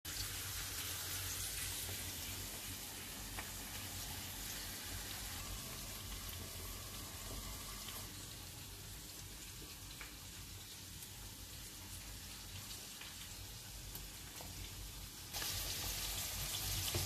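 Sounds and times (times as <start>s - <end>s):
vegetables sizzling in oil: 0.1s - 17.0s.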